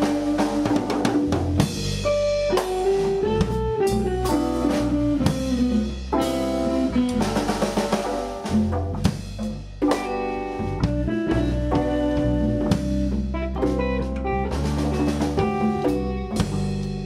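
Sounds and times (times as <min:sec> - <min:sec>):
music with drums and guitar: 0:00.0 - 0:17.0.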